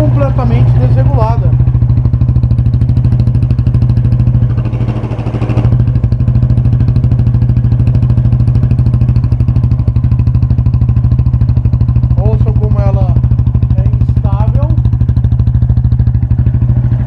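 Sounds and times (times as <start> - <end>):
motorcycle engine idling unevenly: 0.0 - 17.0.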